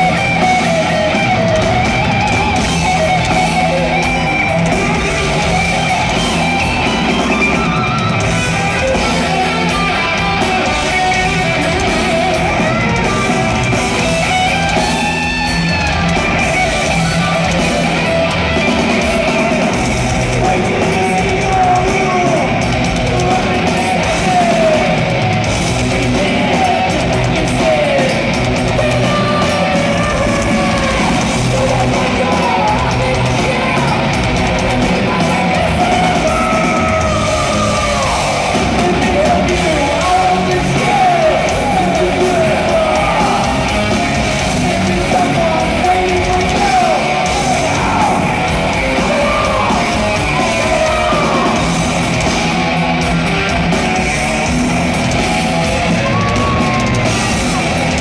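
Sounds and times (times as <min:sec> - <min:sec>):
distorted lead electric guitar: 0:00.0 - 0:58.0
heavy metal band playing: 0:00.0 - 0:58.0.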